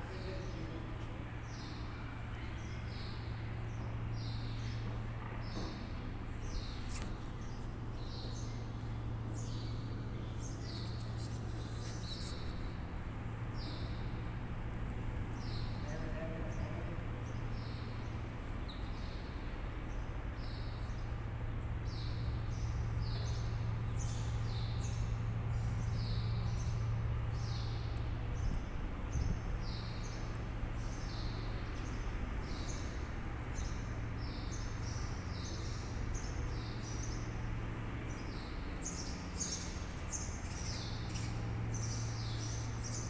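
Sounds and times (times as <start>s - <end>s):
small birds chirping: 0.0s - 43.0s
steady low hum: 0.0s - 43.0s.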